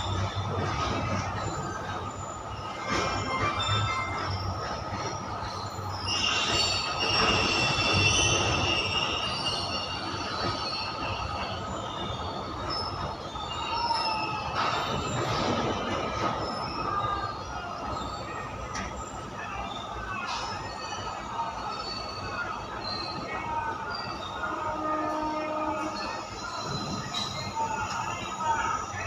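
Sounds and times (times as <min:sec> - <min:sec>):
freight train wheels rumbling: 0:00.0 - 0:29.0
high-pitched wheel squeal: 0:00.0 - 0:29.0.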